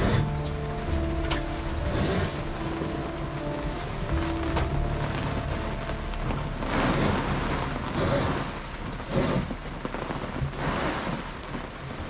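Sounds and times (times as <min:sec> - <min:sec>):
water rushing and splashing: 0:00.0 - 0:12.0
wind noise on microphone: 0:00.0 - 0:12.0.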